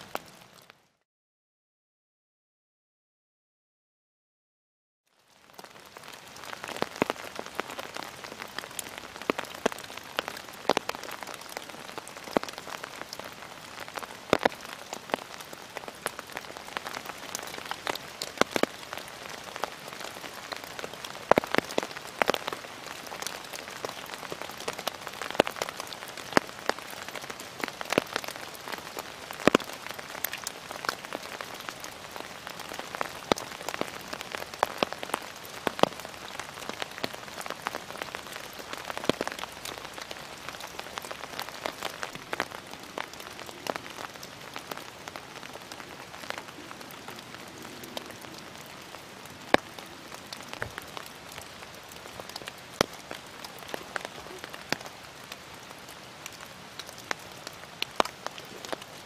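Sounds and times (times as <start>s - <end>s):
raindrops tapping: 5.4s - 54.9s.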